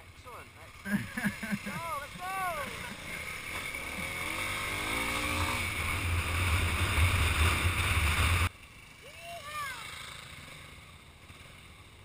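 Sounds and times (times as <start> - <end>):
dirt bike engine revving: 0.7 - 8.9, 9.7 - 12.0.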